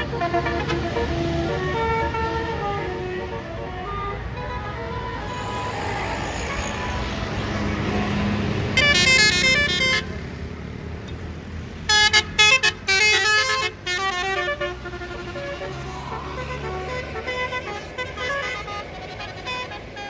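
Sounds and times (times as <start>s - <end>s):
multi-tone bus air horn melody: 0.0s - 10.2s, 11.9s - 20.0s
bus engine: 0.0s - 20.0s
traffic noise: 0.0s - 20.0s.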